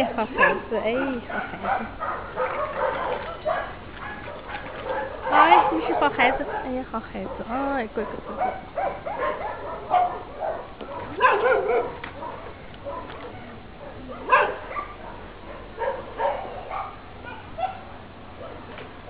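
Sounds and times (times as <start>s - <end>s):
dogs barking and yipping: 0.0s - 19.0s.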